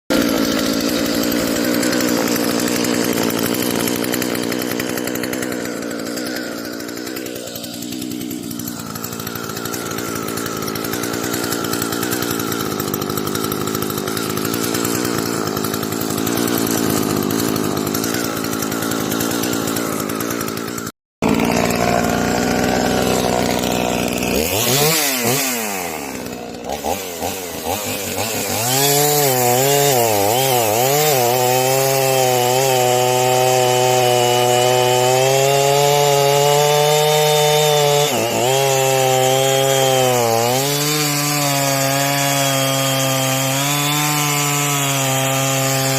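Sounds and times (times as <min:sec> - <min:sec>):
chainsaw engine revving: 0:00.1 - 0:45.9.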